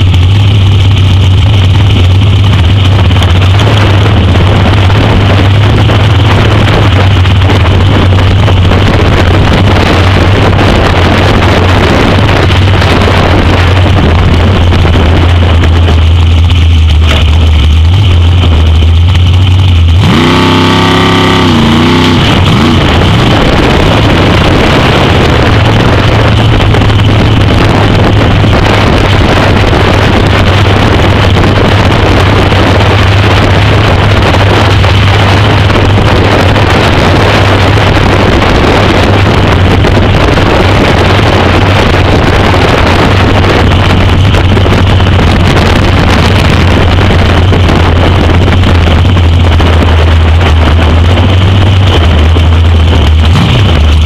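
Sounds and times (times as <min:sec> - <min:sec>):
car engine running: 0:00.0 - 0:54.0
wind buffeting microphone: 0:00.0 - 0:54.0.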